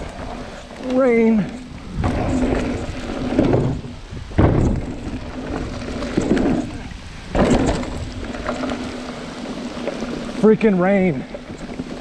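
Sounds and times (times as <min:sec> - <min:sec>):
bike tyres rattling on wooden planks: 0:00.0 - 0:12.0.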